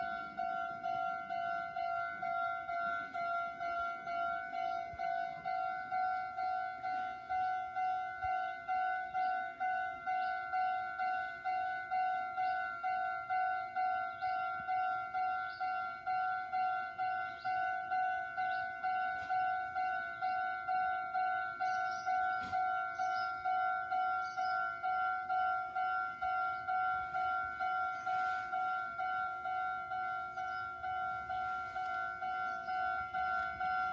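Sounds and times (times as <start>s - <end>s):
level-crossing warning bell ringing: 0.0s - 33.9s.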